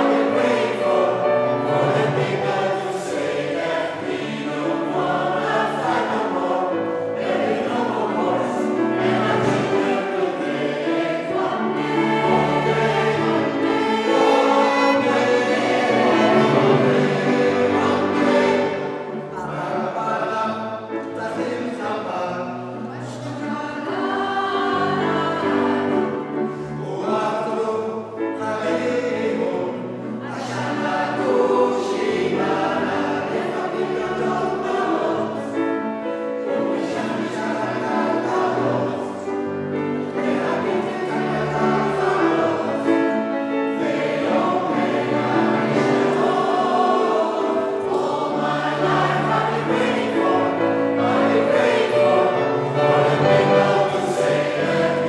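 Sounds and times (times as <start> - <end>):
mixed choir singing in harmony: 0.0 - 55.0
piano: 0.0 - 55.0
violin: 0.0 - 55.0.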